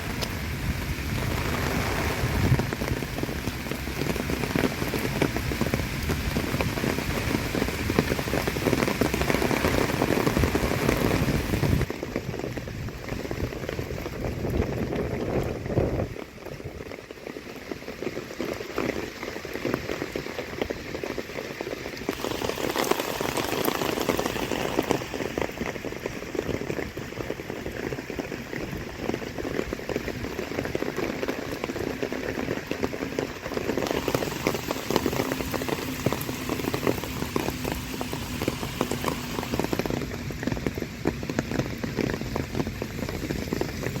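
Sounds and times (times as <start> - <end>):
heavy rain falling: 0.0 - 44.0
wind rumble on microphone: 0.0 - 44.0.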